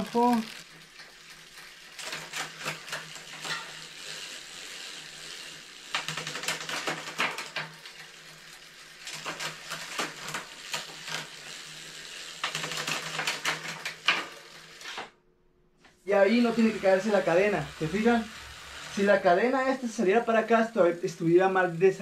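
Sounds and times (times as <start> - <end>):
bicycle chain clicking and rattling: 0.0 - 15.1, 16.1 - 22.0.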